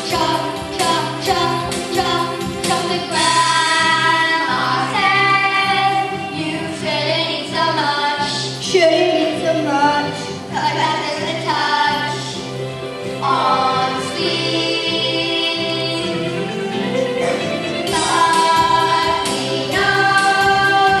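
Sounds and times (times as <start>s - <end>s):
children's choir singing: 0.0s - 12.3s, 13.1s - 21.0s
instrumental accompaniment: 0.0s - 21.0s.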